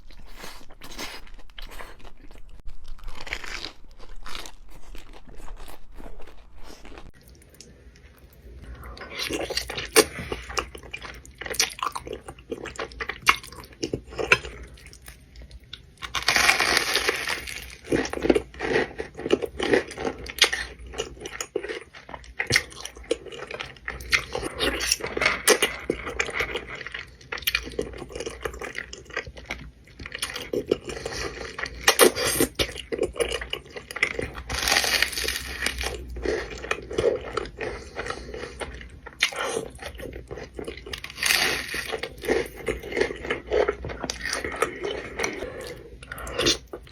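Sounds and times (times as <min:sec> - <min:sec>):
crunching and chewing food: 0:00.0 - 0:46.9.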